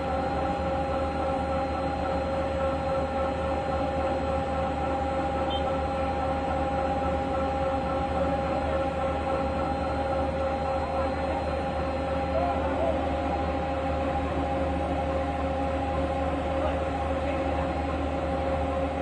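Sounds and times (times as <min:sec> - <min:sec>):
low machinery hum: 0:00.0 - 0:19.0
machinery whine: 0:00.0 - 0:19.0.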